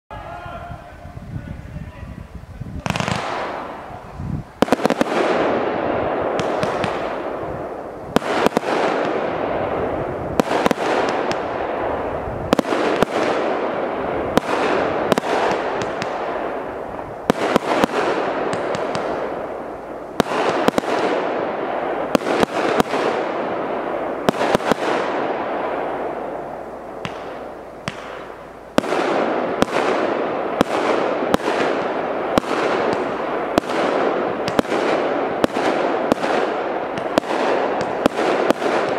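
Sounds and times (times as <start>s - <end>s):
firework bangs: 2.7s - 38.9s.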